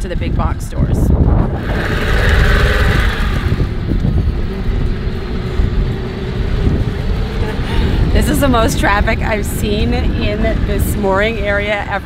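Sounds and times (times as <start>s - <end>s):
wind rushing over microphone: 0.0s - 12.0s
outboard motor running: 0.3s - 11.8s.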